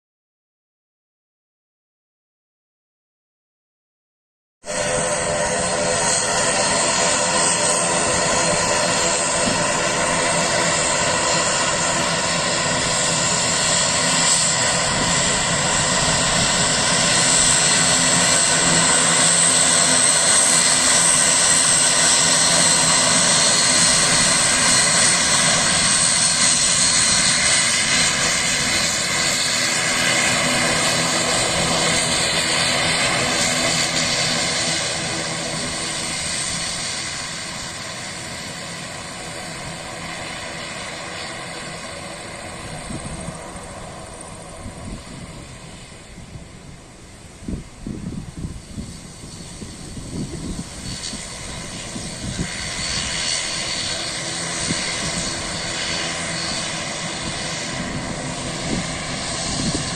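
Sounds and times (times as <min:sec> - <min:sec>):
airliner engines roaring: 0:04.6 - 0:59.9.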